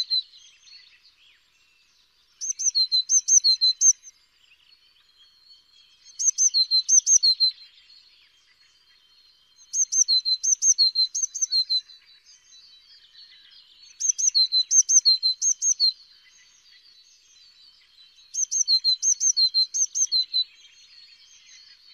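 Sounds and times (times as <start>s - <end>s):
small bird singing: 0.0s - 21.9s.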